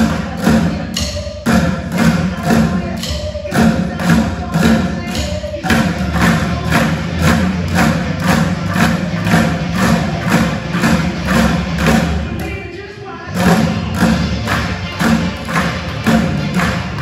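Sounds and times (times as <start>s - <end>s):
drumming on plastic buckets: 0.0s - 12.7s, 13.3s - 17.0s.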